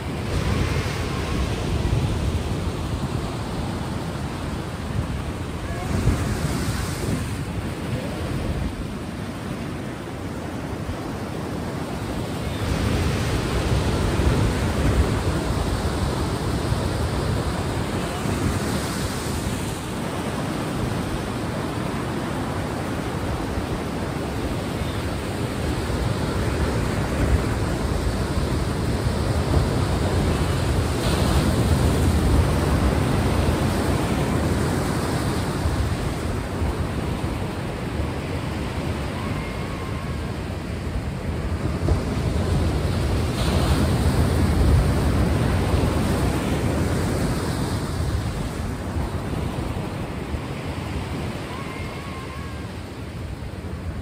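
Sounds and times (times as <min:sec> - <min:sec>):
ocean waves washing: 0:00.0 - 0:54.0.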